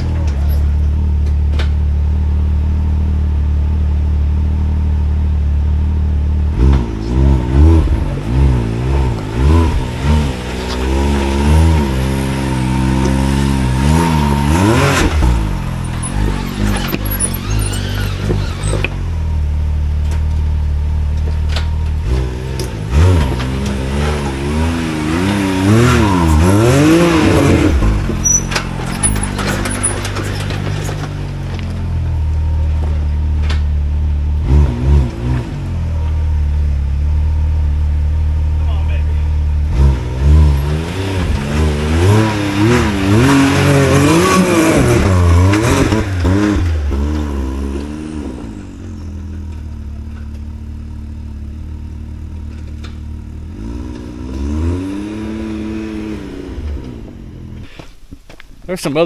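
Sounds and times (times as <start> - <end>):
engine idling and revving: 0.0 - 58.2.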